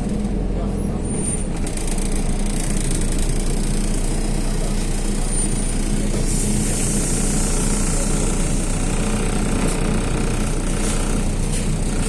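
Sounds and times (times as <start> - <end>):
bus diesel engine humming: 0.0 - 12.0
road noise: 0.0 - 12.0.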